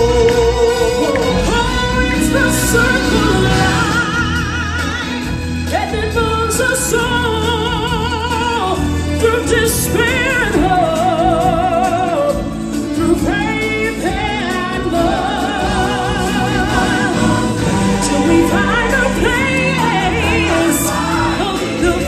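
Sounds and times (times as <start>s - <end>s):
backing track music: 0.0s - 22.0s
singers with strong vibrato: 0.0s - 22.0s.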